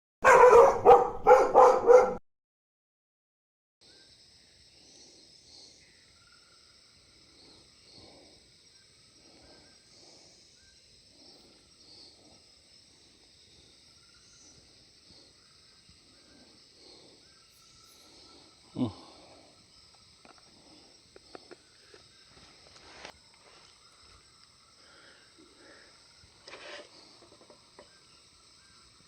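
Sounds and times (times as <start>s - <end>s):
insects chirring: 3.8s - 29.0s.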